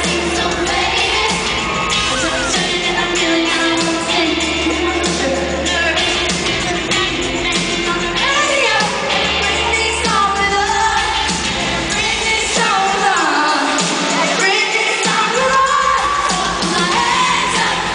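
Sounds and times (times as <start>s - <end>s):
loud amplified pop backing music: 0.0s - 17.9s
woman singing into microphone: 0.0s - 17.9s.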